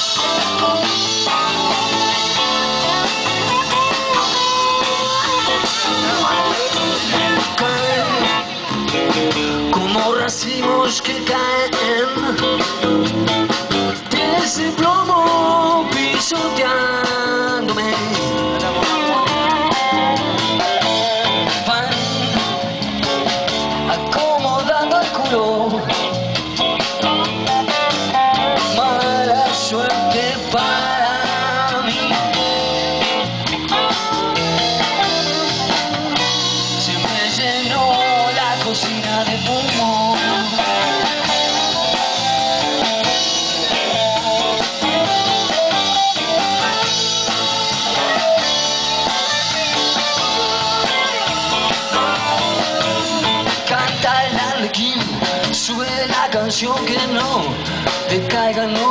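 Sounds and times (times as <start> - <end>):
drums: 0.0 - 58.9
electric guitars: 0.0 - 58.9
live rock band playing: 0.0 - 58.9.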